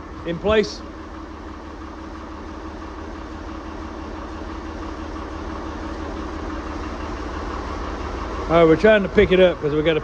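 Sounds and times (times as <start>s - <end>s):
tractor engine throbbing: 0.0s - 10.0s.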